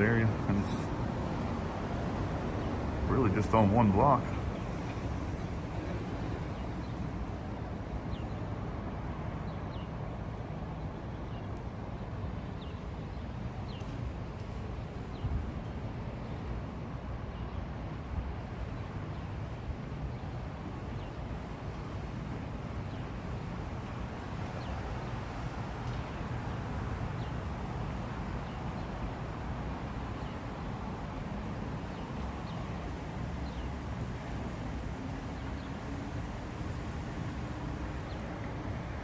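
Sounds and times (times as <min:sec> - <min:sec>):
distant traffic: 0:00.0 - 0:39.0
wind: 0:00.0 - 0:39.0.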